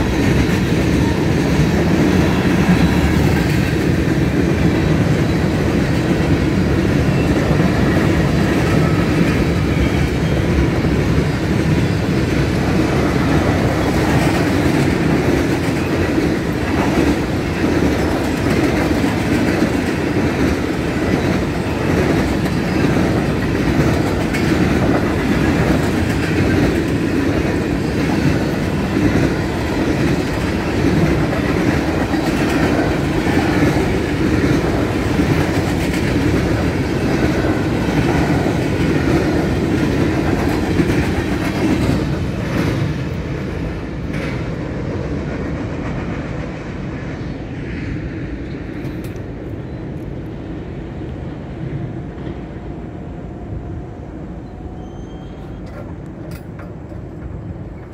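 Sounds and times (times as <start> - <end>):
freight cars rumbling on rails: 0.0 - 57.9.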